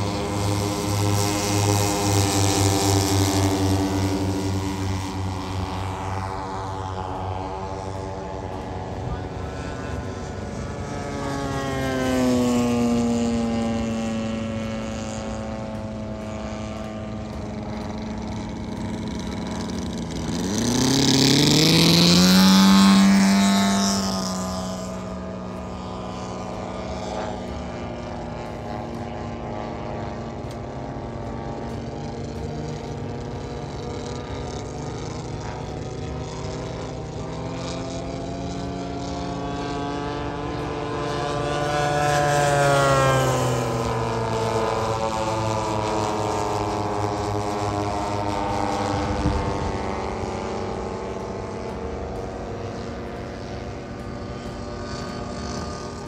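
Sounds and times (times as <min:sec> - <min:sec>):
propeller plane engines droning overhead: 0:00.0 - 0:56.0.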